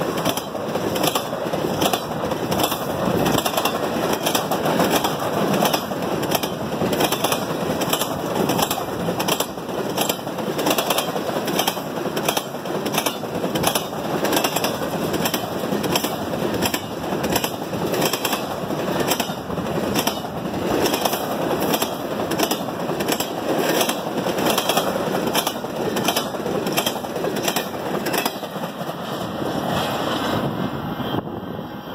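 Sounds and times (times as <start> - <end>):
freight train rolling past: 0.0 - 31.9.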